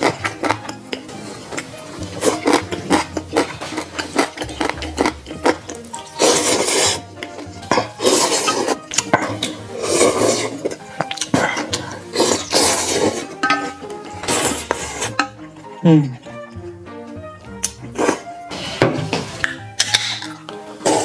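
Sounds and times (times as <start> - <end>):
noodles being slurped: 0.0 - 13.4, 14.2 - 15.2, 17.6 - 18.8, 19.4 - 21.0.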